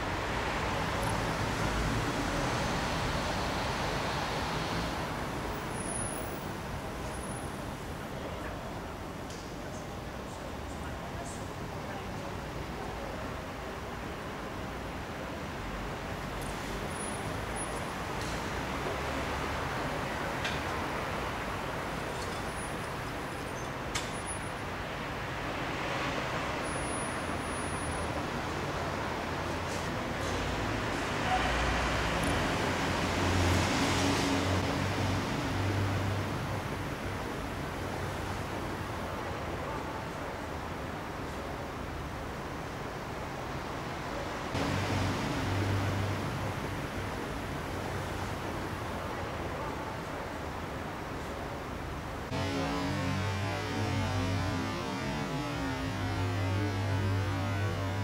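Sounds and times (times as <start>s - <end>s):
distant road traffic rumble: 0.0s - 58.0s.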